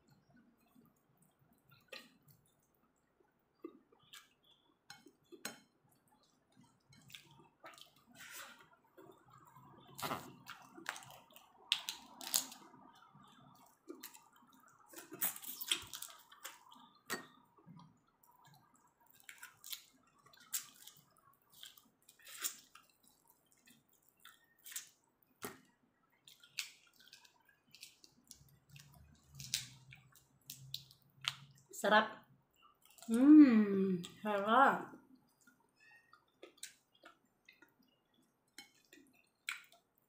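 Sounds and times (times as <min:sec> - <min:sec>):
chewing: 0:03.6 - 0:31.7, 0:32.6 - 0:33.1, 0:35.2 - 0:40.0.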